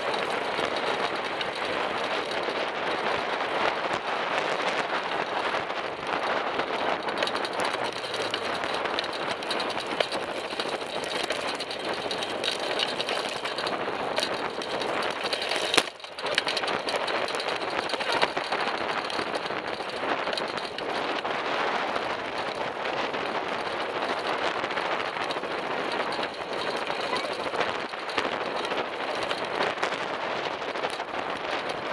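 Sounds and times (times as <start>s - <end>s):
motor traffic passing: 0.0s - 31.4s
bicycle road noise: 0.0s - 31.9s
rushing wind: 0.0s - 31.9s.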